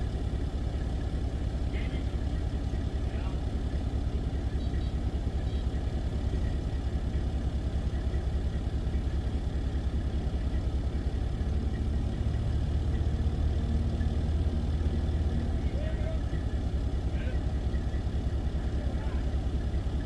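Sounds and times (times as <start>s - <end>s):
large engine low rumble: 0.0s - 20.0s.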